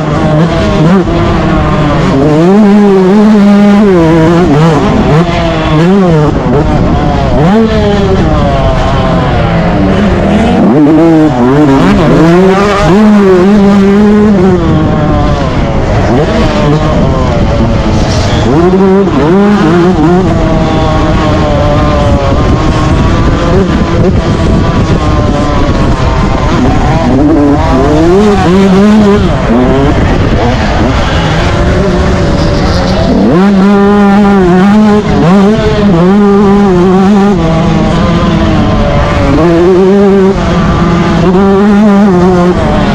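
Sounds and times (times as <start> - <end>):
two-stroke motocross engine revving: 0.0 - 42.9.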